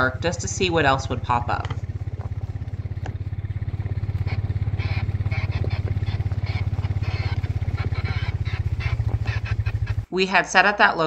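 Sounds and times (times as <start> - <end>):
light rattles: 0.0 - 10.1
vehicle engine throbbing: 0.0 - 10.1.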